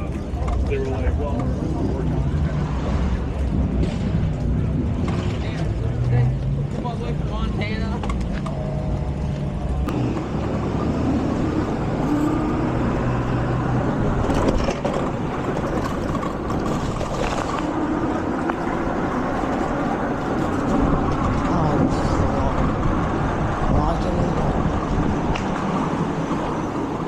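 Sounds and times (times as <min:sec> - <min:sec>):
car engines running: 0:00.0 - 0:27.0.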